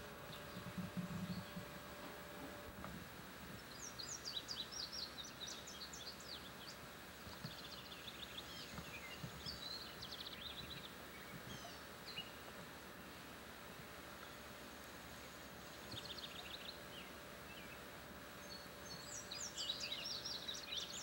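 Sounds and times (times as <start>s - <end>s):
songbird chirping: 0.0s - 21.0s
tape hiss: 0.0s - 21.0s.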